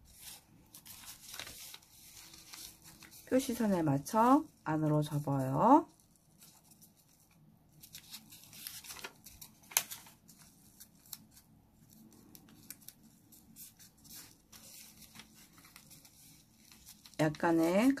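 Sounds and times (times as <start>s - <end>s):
paper rustling and creasing: 0.0s - 18.0s.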